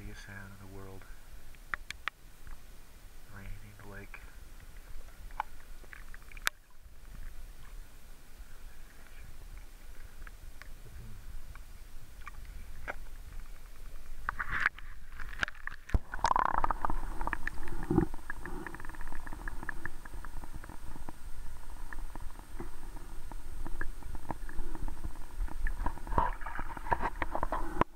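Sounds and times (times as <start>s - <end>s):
underwater gurgling and rumbling: 0.0s - 27.9s
small underwater clicks: 1.0s - 2.6s, 4.6s - 7.8s, 8.9s - 27.9s.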